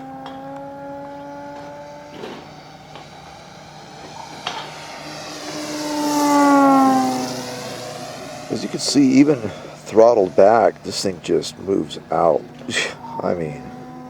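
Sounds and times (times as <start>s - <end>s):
model plane propeller drone: 0.0s - 14.0s.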